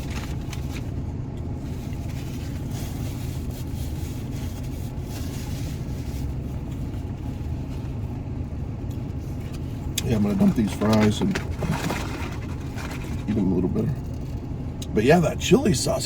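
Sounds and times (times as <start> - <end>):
faint clicks and rustles: 0.0 - 8.2, 8.8 - 14.6
vehicle engine rumbling: 0.0 - 16.0.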